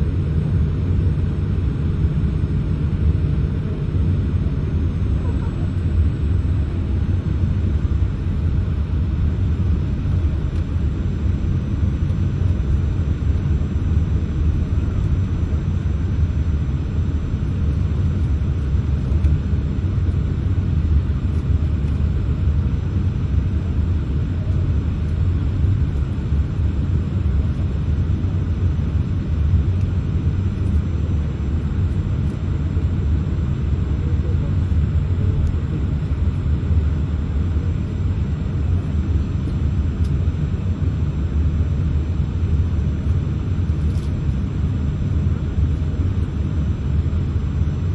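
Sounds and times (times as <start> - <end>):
airliner cabin rumble: 0.0 - 47.9.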